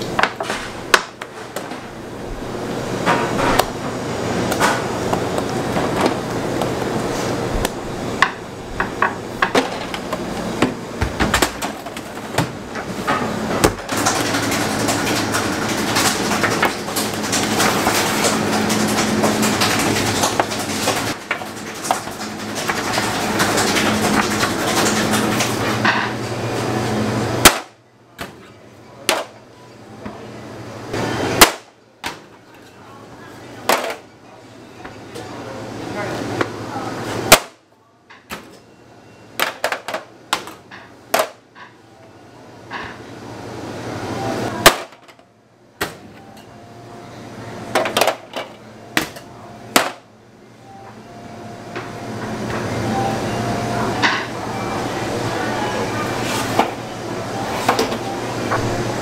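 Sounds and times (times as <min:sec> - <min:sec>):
steady machine hum: 0:00.0 - 0:59.0.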